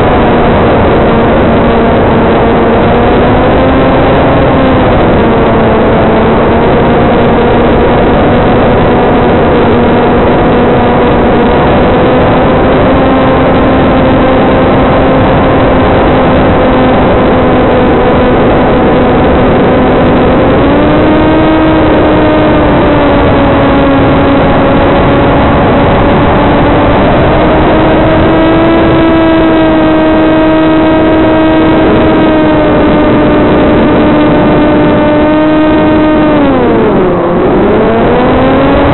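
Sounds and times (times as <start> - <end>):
electric motor and propeller droning: 0.0 - 38.9.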